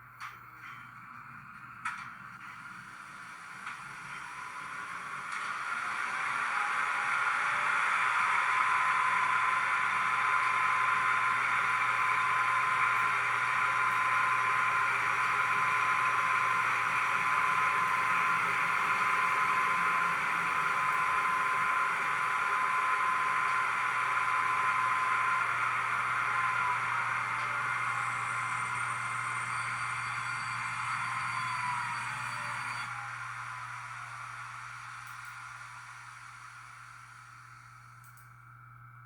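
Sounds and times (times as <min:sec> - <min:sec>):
thin high whine: 0:00.0 - 0:39.0
diesel locomotive engine running: 0:01.8 - 0:38.2.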